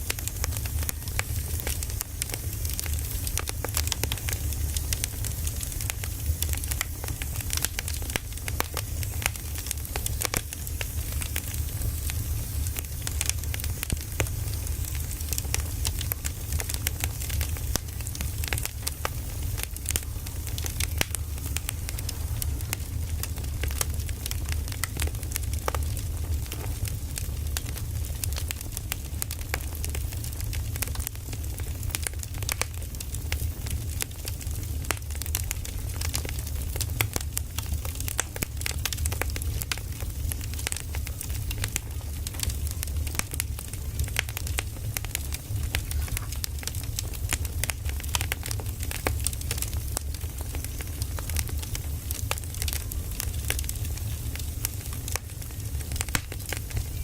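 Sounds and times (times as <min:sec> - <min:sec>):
firewood crackling and popping: 0:00.0 - 0:57.0
low fire rumble: 0:00.0 - 0:57.0.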